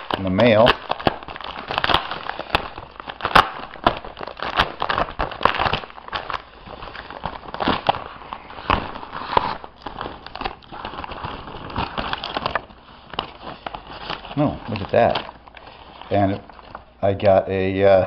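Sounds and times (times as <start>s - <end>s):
tissue paper crinkling: 0.0s - 16.9s.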